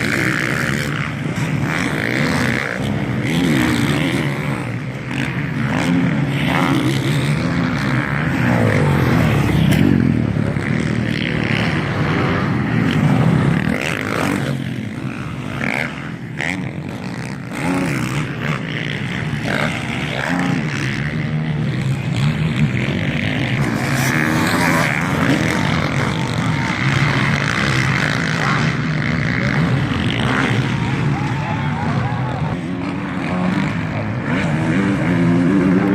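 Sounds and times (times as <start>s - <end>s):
motocross bikes revving: 0.0s - 35.9s.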